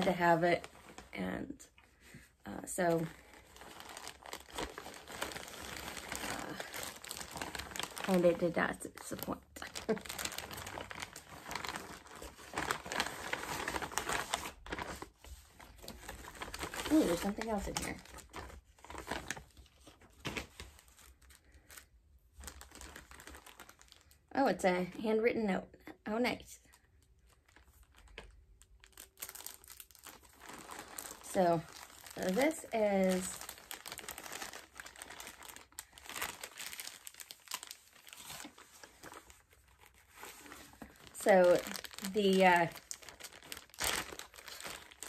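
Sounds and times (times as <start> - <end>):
packaging crinkling and rustling: 0.0 - 24.2, 26.6 - 45.0.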